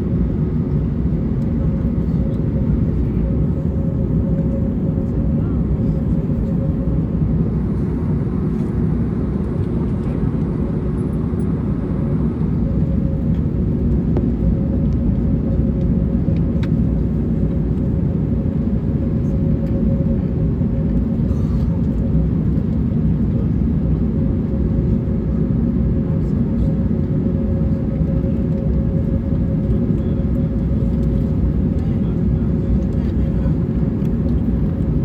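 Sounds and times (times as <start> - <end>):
aircraft cabin rumble: 0.0 - 35.0.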